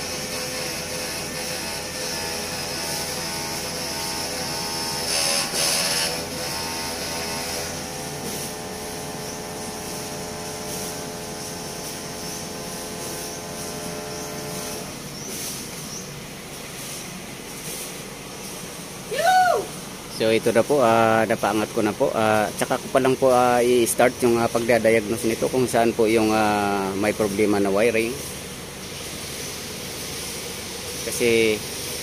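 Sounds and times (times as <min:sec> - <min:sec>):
electric pump whining: 0:00.0 - 0:32.0.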